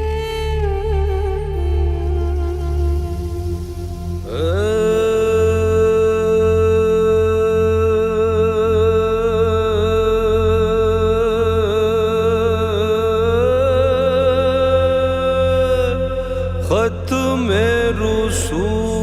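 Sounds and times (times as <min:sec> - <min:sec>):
low pulsing hum: 0:00.0 - 0:19.0
person singing a long note: 0:00.0 - 0:19.0.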